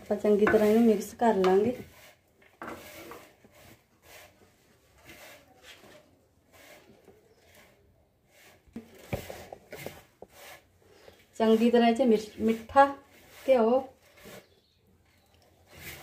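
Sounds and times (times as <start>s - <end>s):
grains scraping on metal plate: 0.1s - 4.4s, 5.0s - 14.7s, 15.7s - 16.0s.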